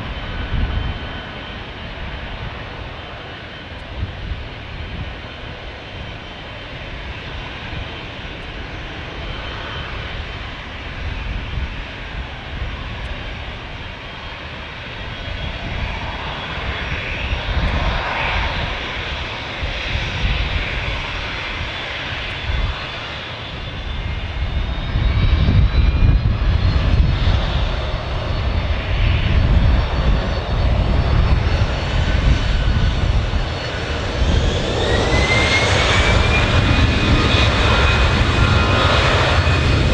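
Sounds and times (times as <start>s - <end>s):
jet engine whine rising: 0.0s - 39.9s
jet engines roaring: 0.0s - 39.9s.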